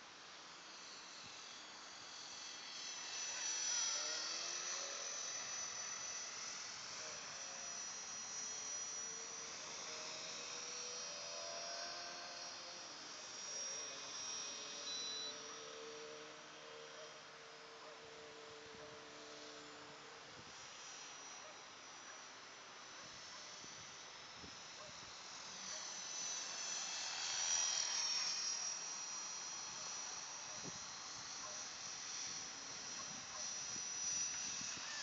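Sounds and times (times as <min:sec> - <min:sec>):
aircraft engine whine overhead: 0:00.0 - 0:35.0.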